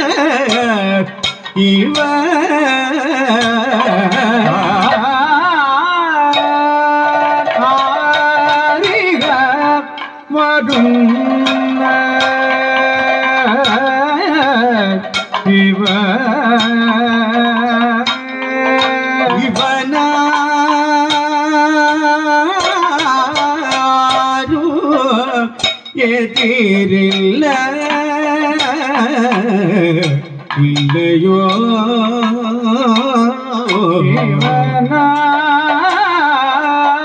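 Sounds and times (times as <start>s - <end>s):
drum strokes: 0.0s - 37.0s
men singing ornamented melody: 0.0s - 37.0s.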